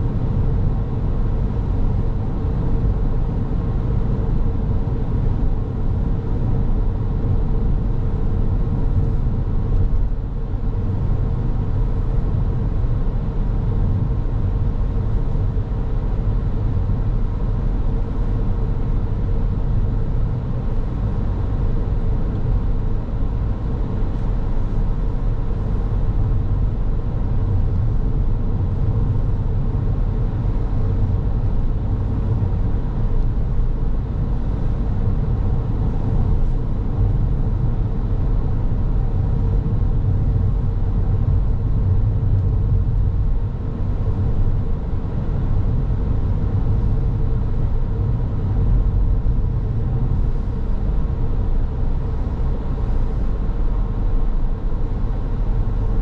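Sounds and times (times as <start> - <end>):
faint steady hum: 0.0 - 56.0
road and engine rumble: 0.0 - 56.0.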